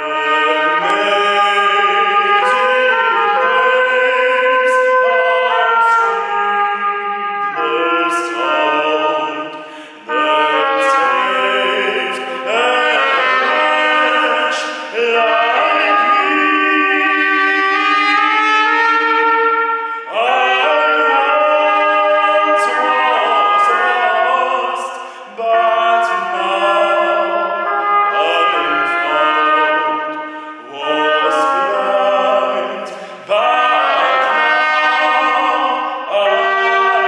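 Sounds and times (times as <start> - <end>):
tenor voice singing: 0.0 - 37.0
trumpet: 0.0 - 37.0.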